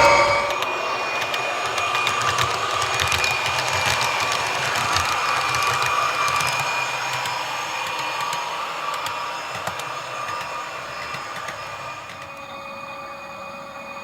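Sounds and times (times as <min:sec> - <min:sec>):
model train motor whine: 0:00.0 - 0:00.8, 0:02.0 - 0:14.0.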